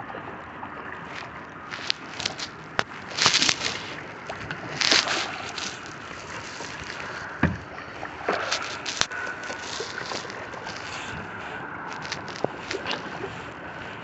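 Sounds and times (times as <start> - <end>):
paddle strokes splashing water: 0.0 - 14.0.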